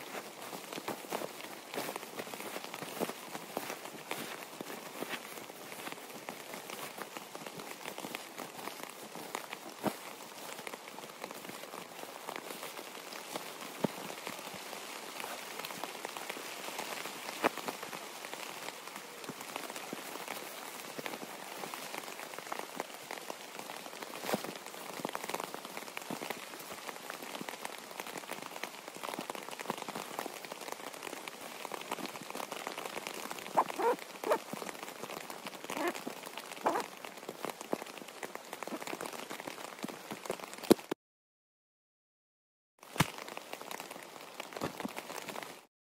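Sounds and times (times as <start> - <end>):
rain on a tent: 0.0 - 41.0, 42.8 - 45.7.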